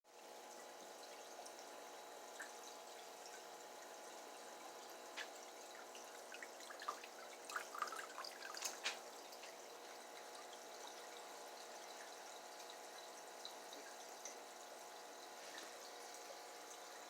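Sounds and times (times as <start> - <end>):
faint steady hum: 0.1 - 17.0
water dripping and trickling: 0.1 - 17.0.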